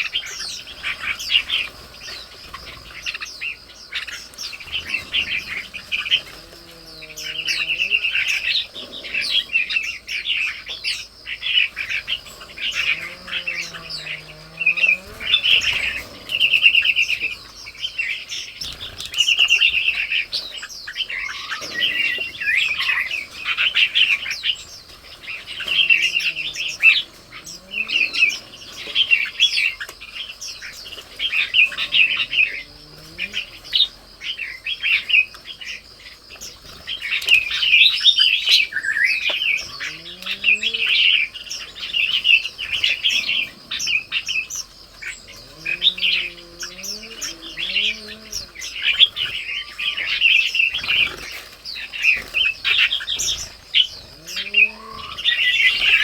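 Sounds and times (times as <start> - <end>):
low wavering bird calls: 0.0 - 56.0
songbirds chirping: 0.0 - 56.0.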